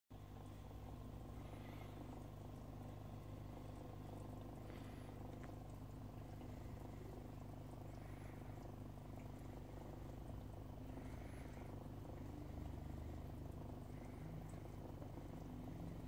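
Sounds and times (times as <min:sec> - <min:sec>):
aquarium pump humming: 0:00.1 - 0:16.0.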